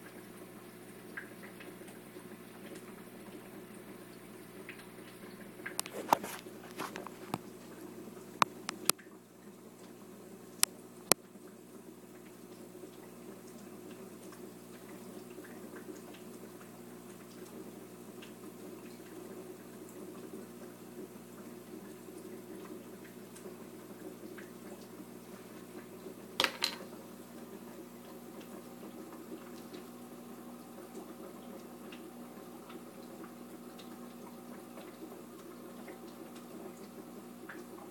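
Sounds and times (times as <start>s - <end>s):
sponge filter bubbling: 0.0s - 37.9s.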